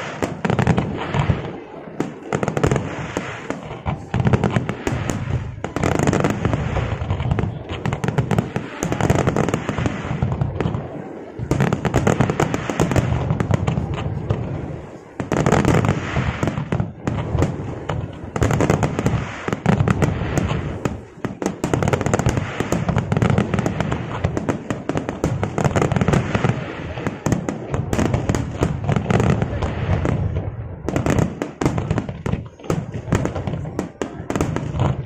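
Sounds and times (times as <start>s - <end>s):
fireworks booming and crackling: 0.0s - 35.0s.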